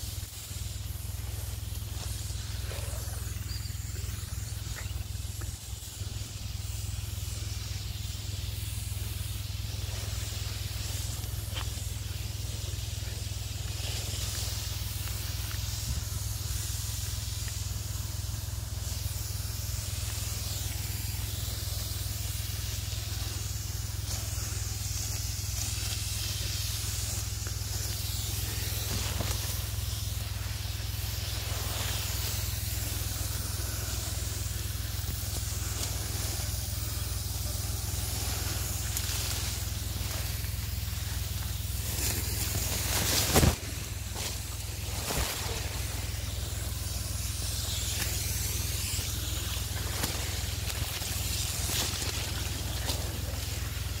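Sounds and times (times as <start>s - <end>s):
hiss of spray: 0.0s - 54.0s
leaves brushing microphone: 0.0s - 54.0s
pump sprayer humming: 0.0s - 54.0s.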